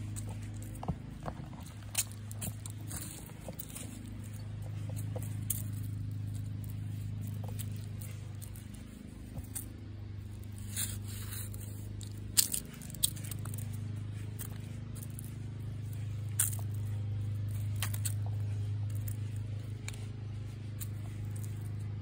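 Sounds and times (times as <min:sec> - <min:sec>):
footsteps on paved path: 0:00.0 - 0:22.0
steady low hum: 0:00.0 - 0:22.0.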